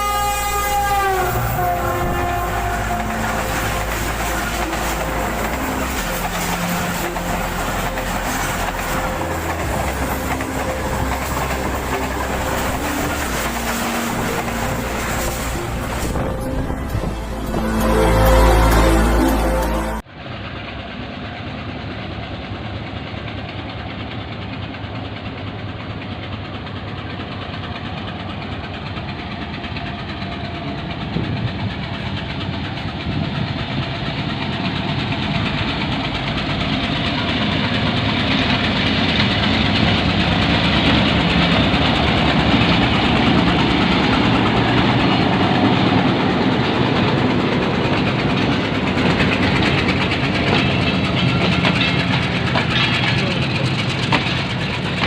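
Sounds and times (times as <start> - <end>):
locomotive engine running: 0.0 - 55.0.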